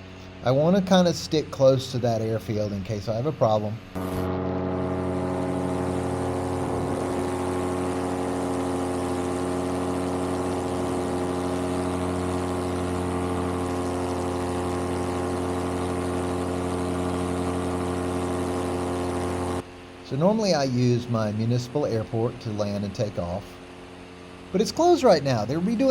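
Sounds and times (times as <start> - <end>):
paramotor engine droning: 0.0 - 25.9.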